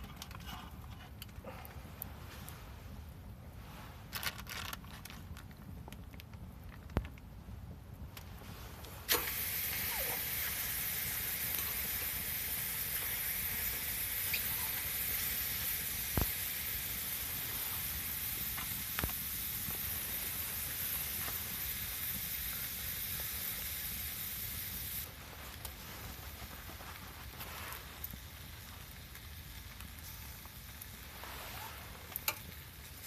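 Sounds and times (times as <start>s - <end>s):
steady hiss: 0.0s - 5.4s, 7.4s - 33.0s.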